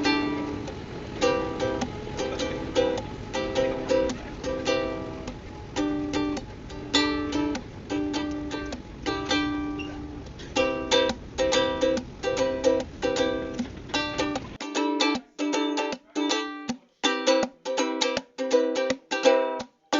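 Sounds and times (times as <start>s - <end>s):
ukulele strumming chords: 0.0s - 19.9s.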